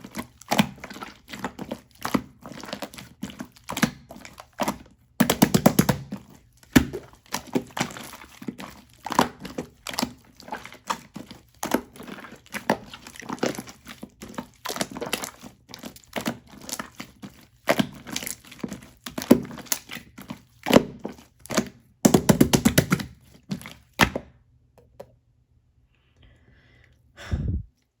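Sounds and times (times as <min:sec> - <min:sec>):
crunching and crackling: 0:00.0 - 0:24.0.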